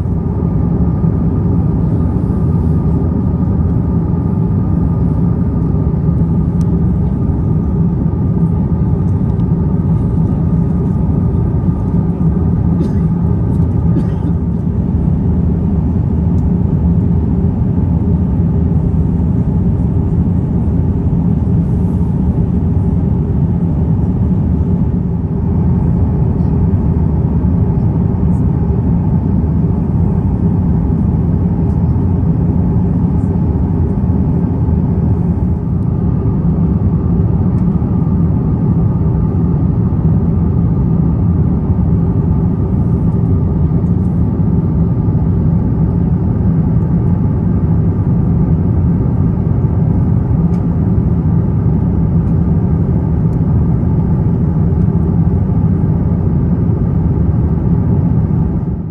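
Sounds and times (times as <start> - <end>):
airplane cabin drone: 0.0 - 58.9
jet engines: 0.0 - 58.9.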